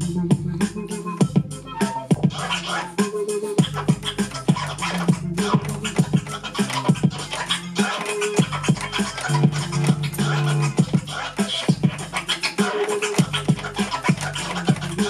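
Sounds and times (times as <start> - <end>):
drum beat: 0.0 - 15.0
vinyl record scratching: 0.0 - 15.0.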